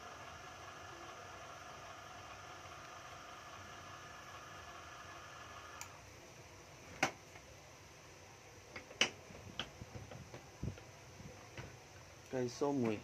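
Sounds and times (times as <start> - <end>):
faint steady whine: 0.0 - 13.0.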